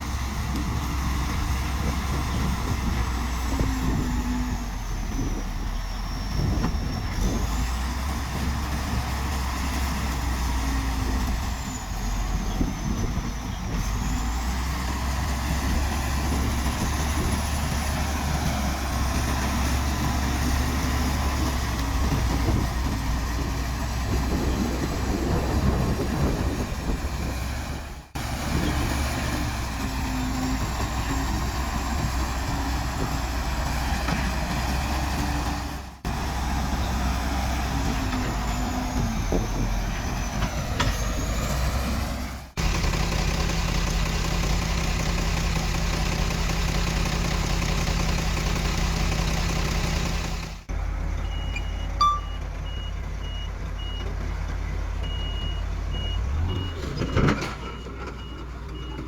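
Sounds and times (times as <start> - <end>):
heavy machinery engine rumble: 0.0 - 59.0.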